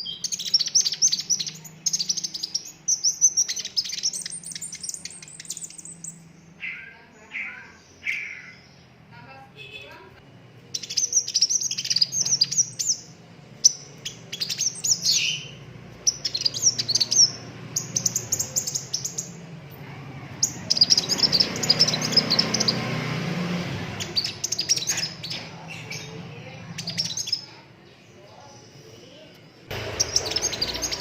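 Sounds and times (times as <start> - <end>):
sunbird trilling song: 0.0 - 9.0, 10.7 - 19.6, 20.3 - 27.6, 29.7 - 31.0.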